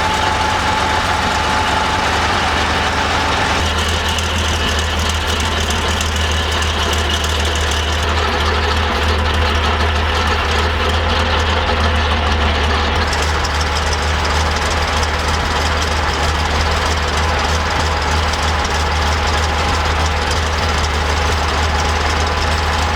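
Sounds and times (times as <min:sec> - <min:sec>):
engine idling with deep rumble: 0:00.0 - 0:22.9.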